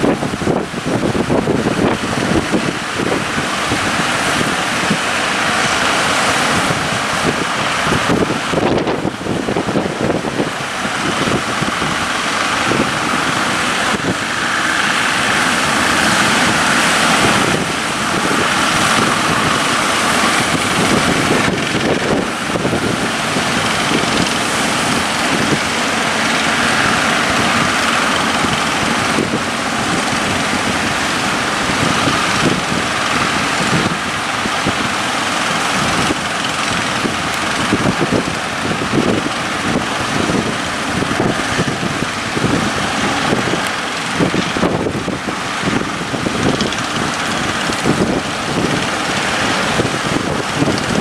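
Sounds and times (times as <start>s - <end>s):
boat motor running: 0.0s - 51.0s
waves rushing against hull: 0.0s - 51.0s
wind buffeting microphone: 0.0s - 51.0s.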